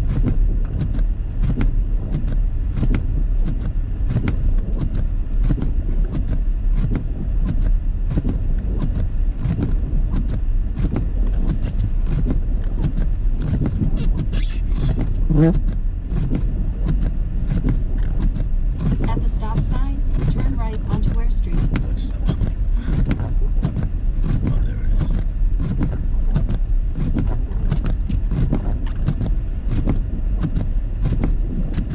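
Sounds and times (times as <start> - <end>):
engine and tyre rumble in car: 0.0 - 31.9.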